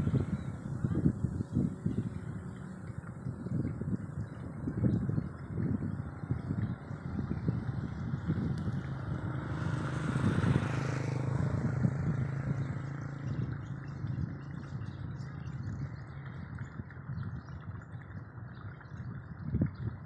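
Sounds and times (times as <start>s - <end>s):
vehicle engine passing: 0.0s - 16.6s
low outdoor rumble: 0.0s - 20.0s.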